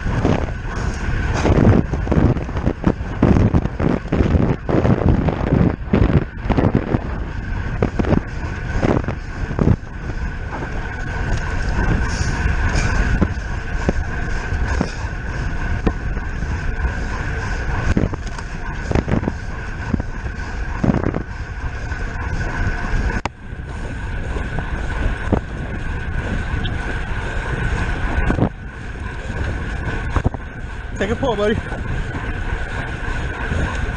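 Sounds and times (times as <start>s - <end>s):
high-pitched whine: 0.0s - 33.9s
wind rushing over microphone: 0.0s - 33.9s.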